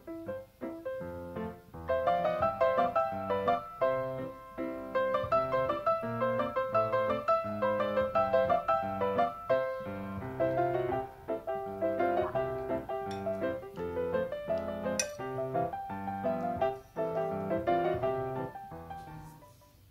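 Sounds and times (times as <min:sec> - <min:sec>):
piano music: 0:00.0 - 0:19.9.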